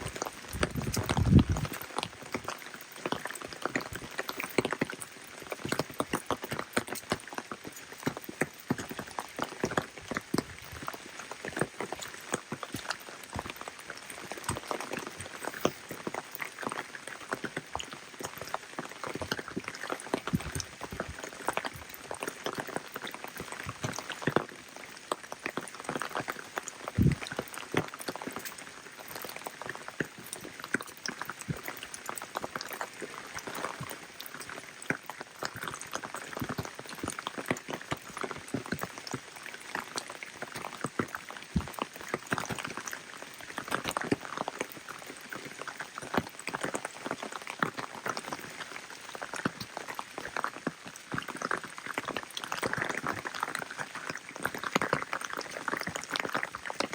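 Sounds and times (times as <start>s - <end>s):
rain drops ticking: 0.0s - 56.9s.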